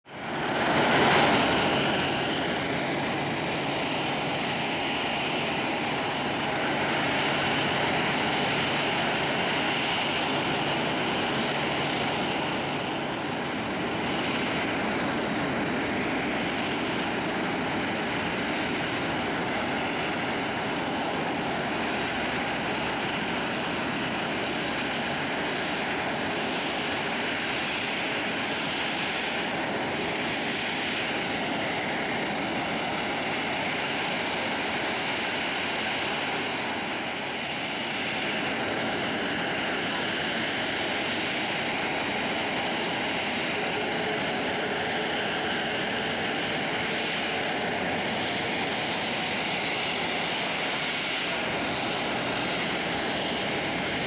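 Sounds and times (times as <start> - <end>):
jet engines idling: 0.0 - 54.0.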